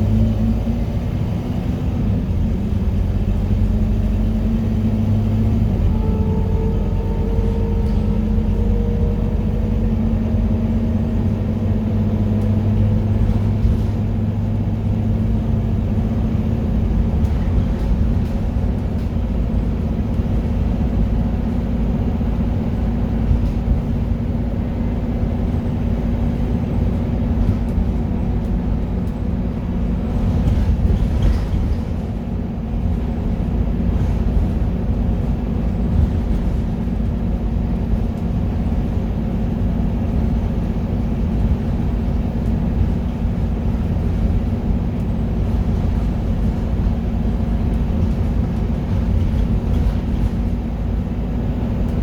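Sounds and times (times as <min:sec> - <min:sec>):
bus engine drone: 0:00.0 - 0:52.0
road noise: 0:00.0 - 0:52.0.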